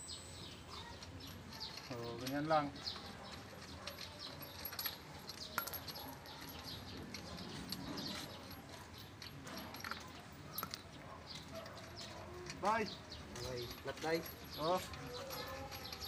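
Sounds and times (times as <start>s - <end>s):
lug nuts clicking and clinking: 0.4s - 16.0s.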